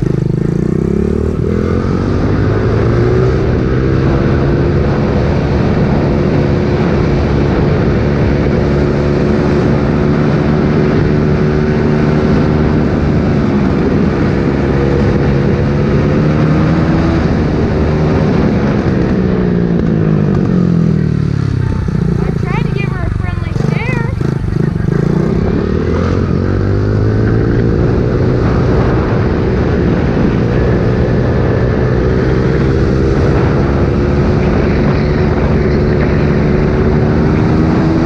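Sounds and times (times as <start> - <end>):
pit bike engine revving: 0.0 - 19.2, 19.8 - 38.0.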